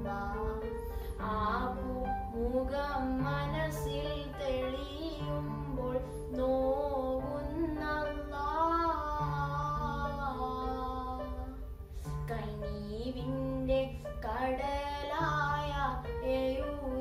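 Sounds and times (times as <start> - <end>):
instrumental backing of low notes: 0.0 - 17.0.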